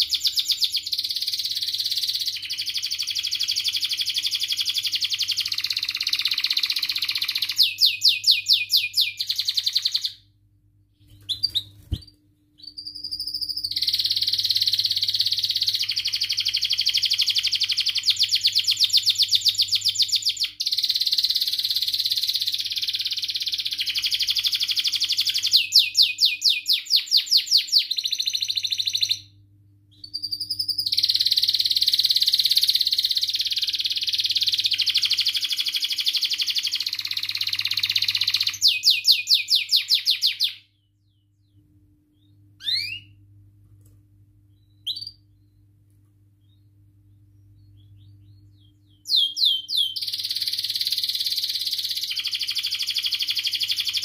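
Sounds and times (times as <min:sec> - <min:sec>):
canary singing trills: 0:00.0 - 0:10.3, 0:11.0 - 0:43.2, 0:44.5 - 0:45.7, 0:46.4 - 0:54.0.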